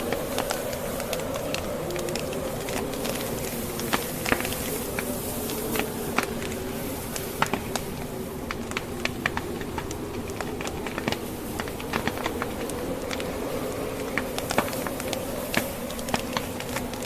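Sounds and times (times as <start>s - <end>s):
logs crackling in fireplace: 0.0s - 17.0s
snowstorm wind drone: 0.0s - 17.0s.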